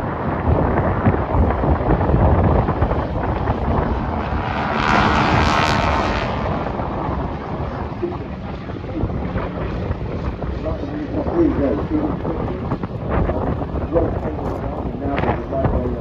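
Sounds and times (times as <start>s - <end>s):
aircraft engine flying past: 0.0s - 16.0s
wind buffeting microphone: 0.0s - 16.0s.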